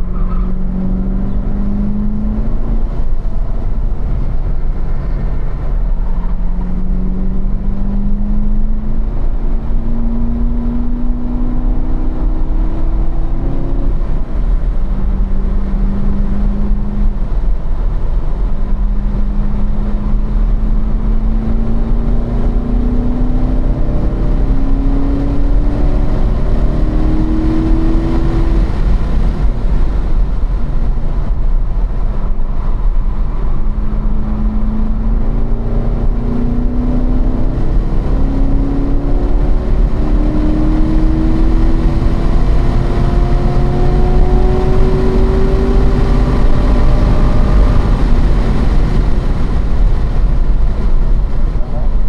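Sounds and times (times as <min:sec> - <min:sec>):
car engine accelerating hard: 0:00.0 - 0:52.0
wind noise: 0:00.0 - 0:52.0.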